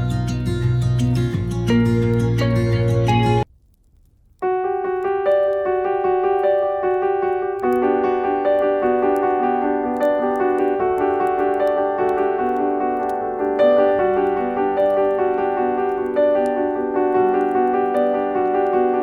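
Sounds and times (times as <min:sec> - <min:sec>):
gentle piano piece: 0:00.0 - 0:03.5, 0:04.4 - 0:19.0.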